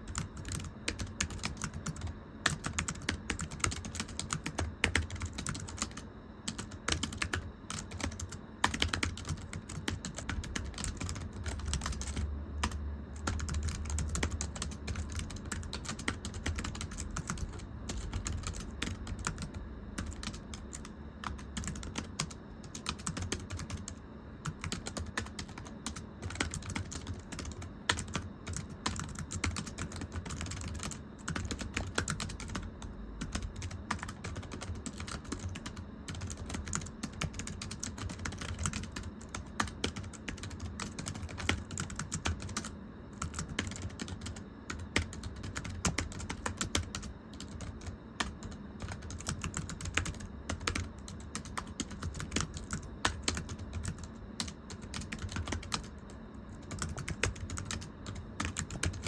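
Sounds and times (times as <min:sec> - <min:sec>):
typing on a computer keyboard: 0:00.0 - 0:59.0.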